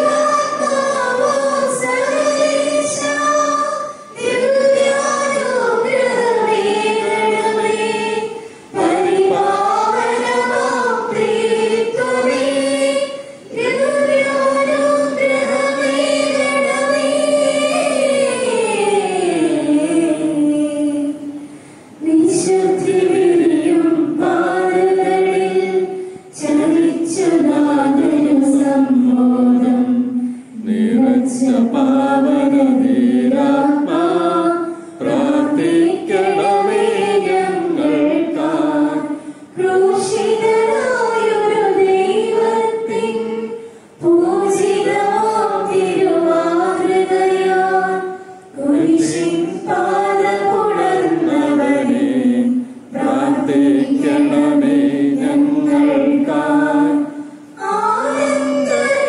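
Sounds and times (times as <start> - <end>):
group singing a slow hymn: 0.0 - 59.0.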